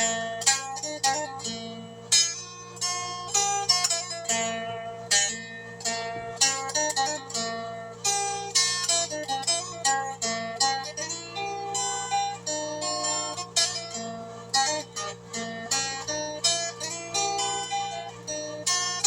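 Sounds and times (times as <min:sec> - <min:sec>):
plucked string instrument runs: 0:00.0 - 0:19.0.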